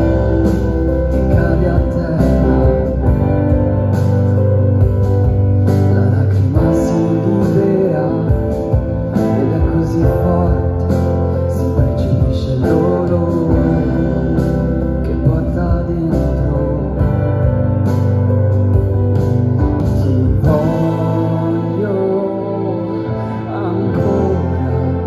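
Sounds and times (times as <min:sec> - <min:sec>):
person singing: 0:00.0 - 0:04.6, 0:05.6 - 0:17.8, 0:19.6 - 0:25.0
amplified acoustic guitar: 0:00.0 - 0:25.0.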